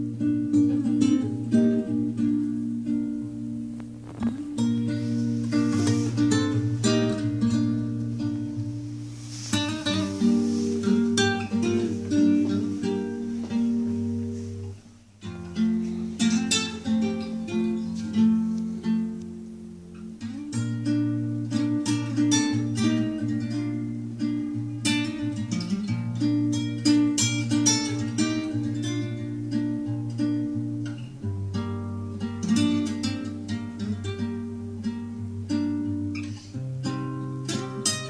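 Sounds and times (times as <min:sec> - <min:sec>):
acoustic guitar music on speakers: 0:00.0 - 0:38.0.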